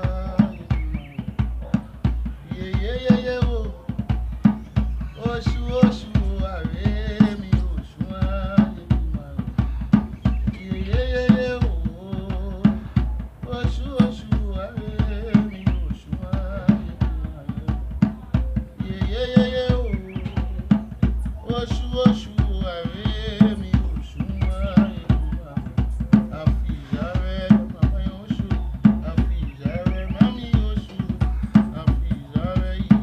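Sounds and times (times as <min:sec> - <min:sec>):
drum kit beat: 0:00.0 - 0:33.0.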